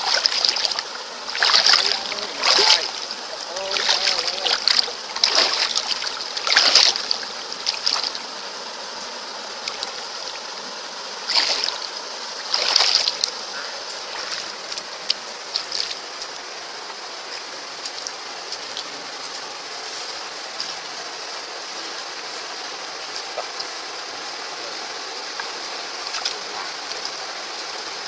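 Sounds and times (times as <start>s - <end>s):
hiss of moving water: 0.0s - 28.0s
water splashing: 0.0s - 28.0s.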